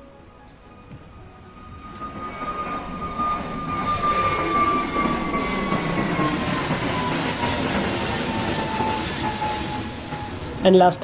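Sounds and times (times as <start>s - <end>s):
jet airliner engines passing: 0.0s - 11.0s.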